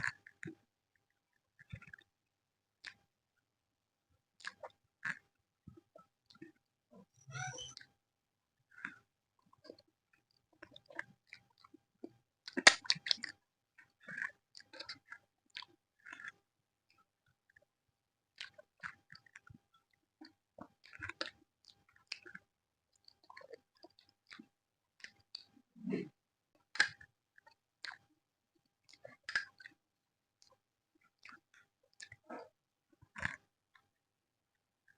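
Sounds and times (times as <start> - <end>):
person chewing and smacking: 0.0 - 2.1, 2.8 - 3.1, 4.4 - 6.6, 8.7 - 17.6, 18.3 - 29.8, 30.4 - 34.0.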